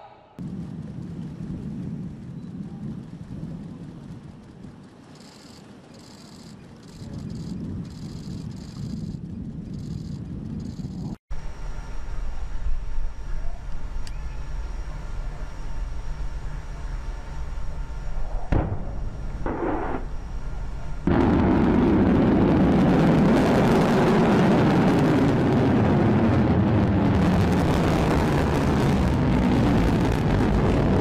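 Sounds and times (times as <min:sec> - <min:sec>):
rocket engine roar: 0:00.4 - 0:31.0.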